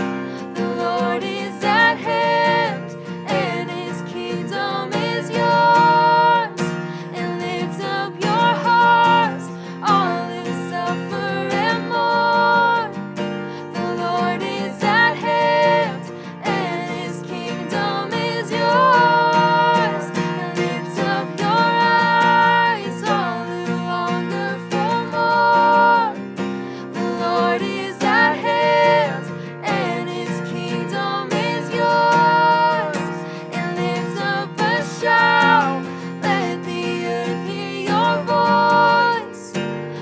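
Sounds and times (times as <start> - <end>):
man and woman singing: 0.0 - 13.0, 13.6 - 26.2, 26.8 - 39.6
acoustic guitar strumming: 0.0 - 40.0.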